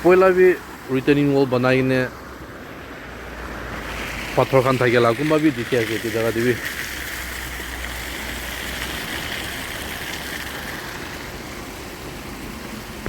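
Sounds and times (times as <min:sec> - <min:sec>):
rainwater rushing from culvert: 0:00.0 - 0:13.0.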